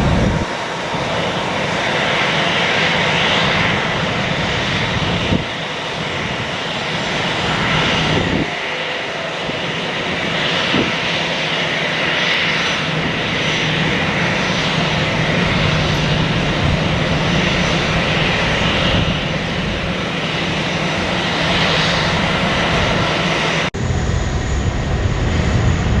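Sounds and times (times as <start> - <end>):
airliner engines rushing: 0.0 - 26.0.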